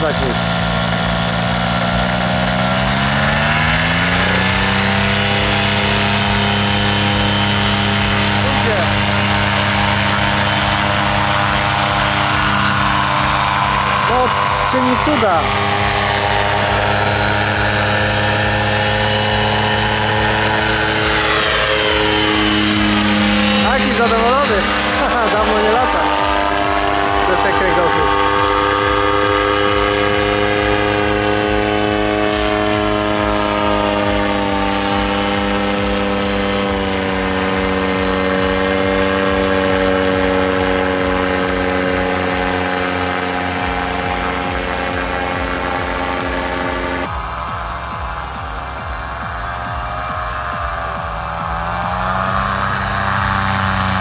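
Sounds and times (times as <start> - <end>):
paramotor engine droning: 0.0 - 54.0.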